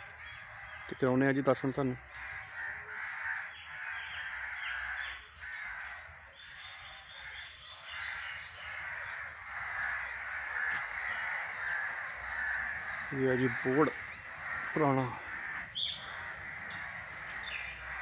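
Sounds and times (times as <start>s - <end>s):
short harsh bird calls: 2.0s - 18.0s.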